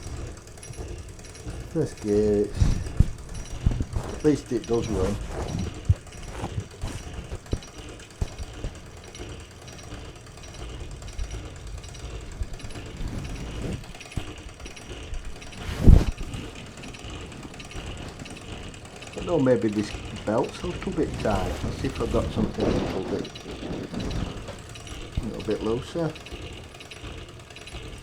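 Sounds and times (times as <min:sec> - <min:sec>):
steam engine gears clattering: 0:00.0 - 0:28.0.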